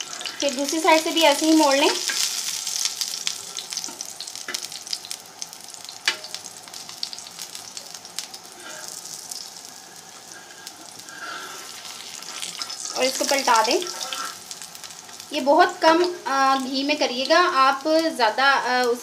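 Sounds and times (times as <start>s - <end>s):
batter sizzling in hot oil: 0.0s - 19.0s.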